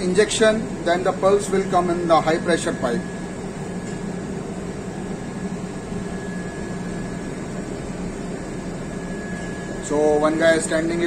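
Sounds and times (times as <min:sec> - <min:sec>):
engine room machinery drone: 0:00.0 - 0:11.0
faint high whine: 0:00.0 - 0:11.0.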